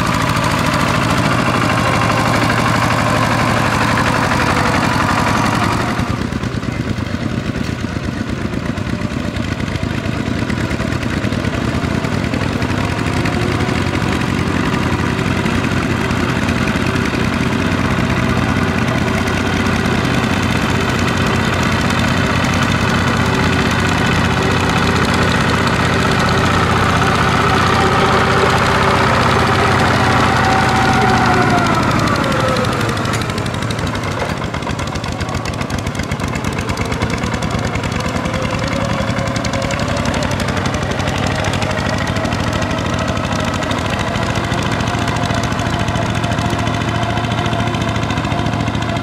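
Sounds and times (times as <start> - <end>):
diesel tractor engine running: 0.0 - 49.0.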